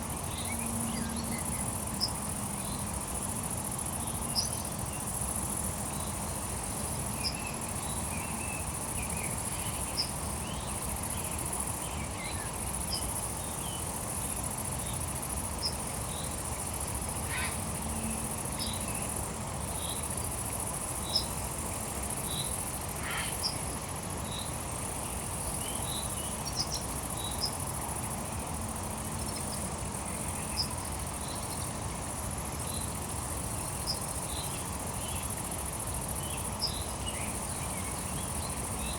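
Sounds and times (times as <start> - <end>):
crickets trilling: 0.0 - 38.9
low steady background rush: 0.0 - 38.9.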